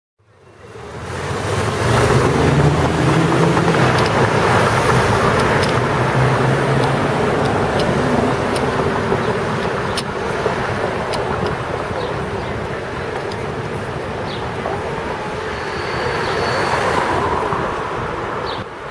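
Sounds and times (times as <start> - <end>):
city traffic noise: 0.2 - 18.9.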